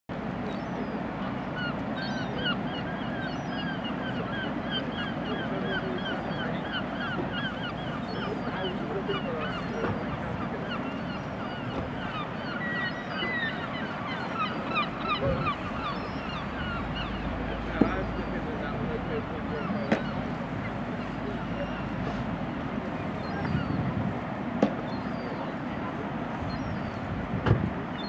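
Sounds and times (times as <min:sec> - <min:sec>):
flock of birds calling: 0:00.4 - 0:23.9, 0:24.8 - 0:27.2.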